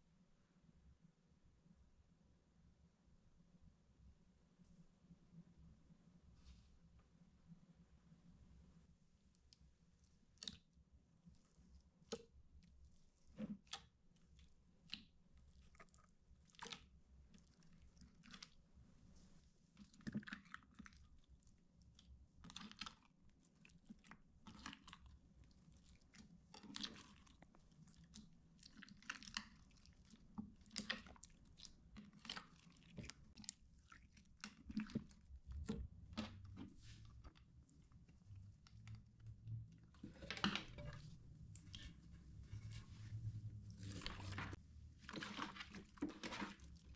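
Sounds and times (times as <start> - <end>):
slime squelching: 9.3 - 46.9.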